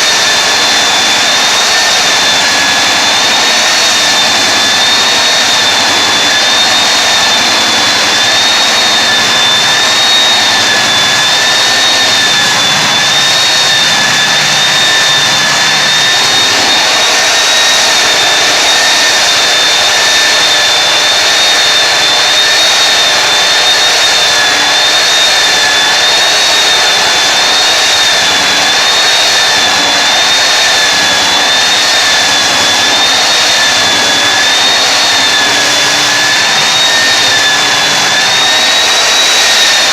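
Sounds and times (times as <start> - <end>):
floor sander whining: 0.0 - 39.9.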